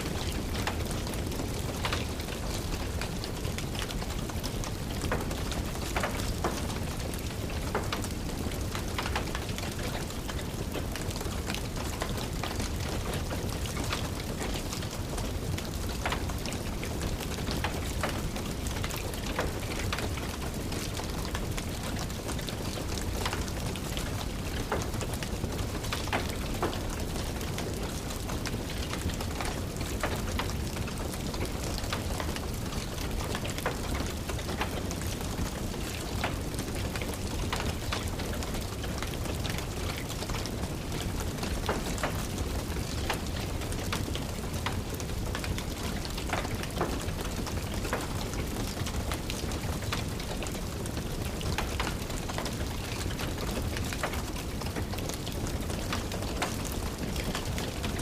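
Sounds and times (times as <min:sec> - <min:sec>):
rain tapping on windowsill: 0:00.0 - 0:58.0
wood fire crackling: 0:00.0 - 0:58.0.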